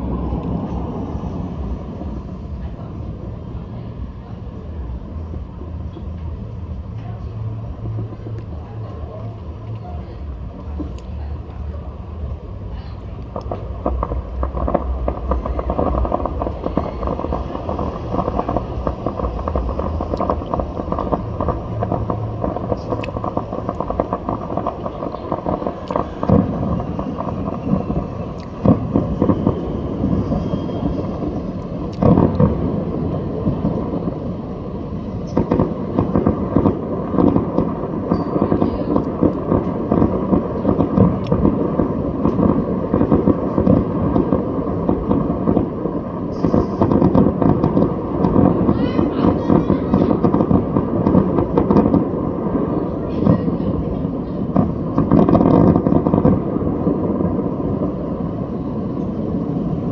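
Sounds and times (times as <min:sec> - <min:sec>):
fireworks crackling: 0:00.0 - 0:59.9
heavy fireworks bangs: 0:00.0 - 0:59.9.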